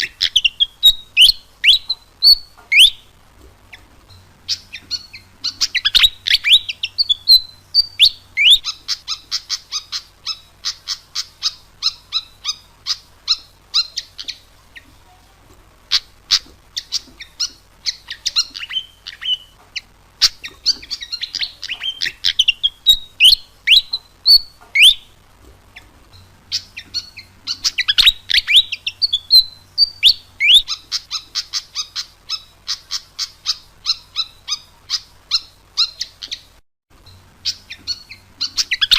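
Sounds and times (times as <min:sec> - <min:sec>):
bird singing high chips and whistles: 0:00.0 - 0:03.1, 0:03.7 - 0:14.9, 0:15.9 - 0:25.2, 0:25.8 - 0:38.9.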